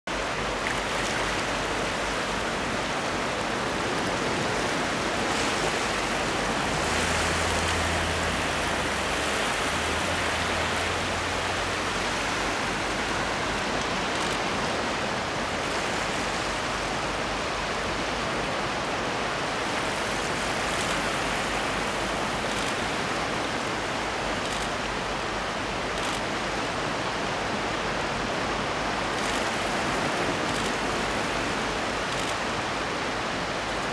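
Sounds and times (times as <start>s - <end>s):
waves breaking on rocky shore: 0.1s - 33.9s.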